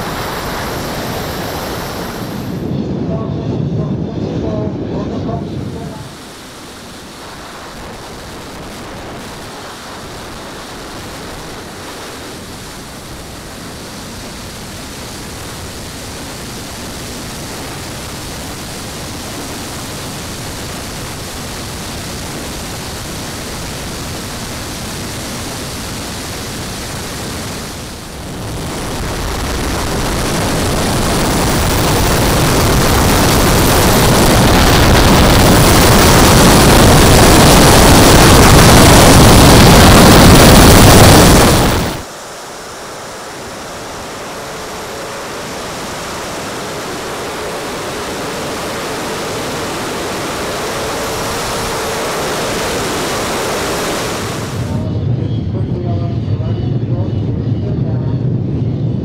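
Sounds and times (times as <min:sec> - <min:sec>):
rush of airflow: 0:00.0 - 0:03.1, 0:05.3 - 0:55.0
gas turbine engines: 0:00.0 - 0:59.0.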